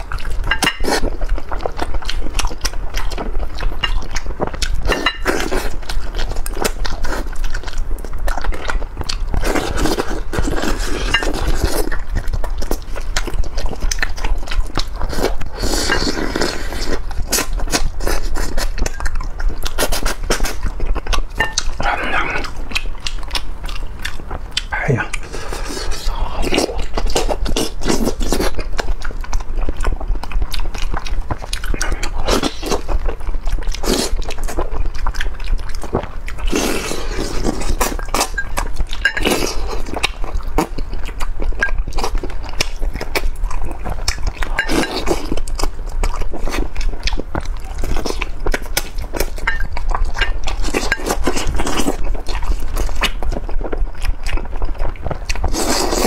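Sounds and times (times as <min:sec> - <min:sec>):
wet chewing and smacking: 0:00.0 - 0:56.0.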